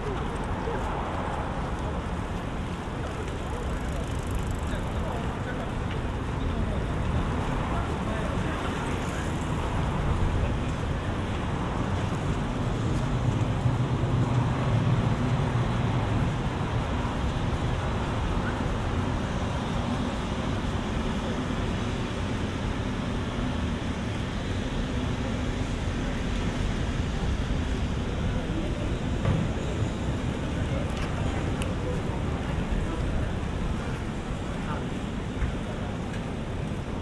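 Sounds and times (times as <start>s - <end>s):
city traffic noise: 0.0s - 37.0s.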